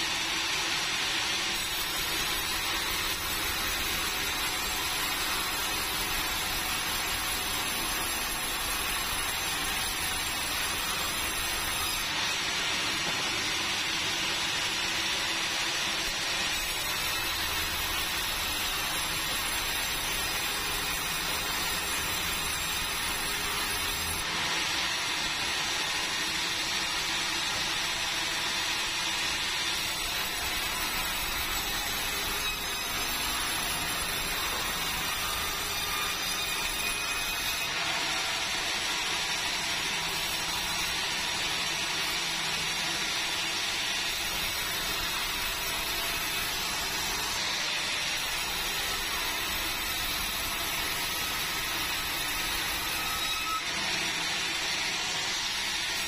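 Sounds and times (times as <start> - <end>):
band saw cutting log: 1.4 - 43.2, 43.8 - 56.0.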